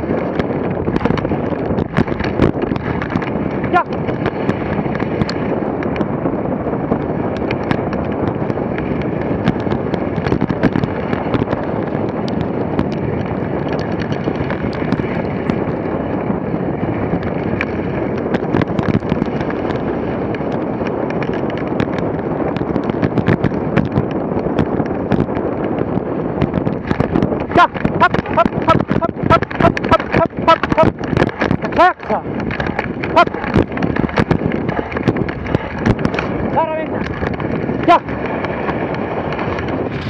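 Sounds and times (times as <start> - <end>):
sled rattling over bumps: 0.0 - 40.0
sled runners scraping on snow: 0.0 - 40.0
wind on microphone: 0.0 - 40.0.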